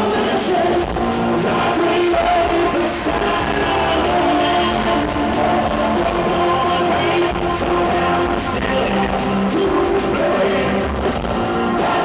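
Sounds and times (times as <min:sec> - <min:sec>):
acoustic rock band playing: 0:00.0 - 0:12.0.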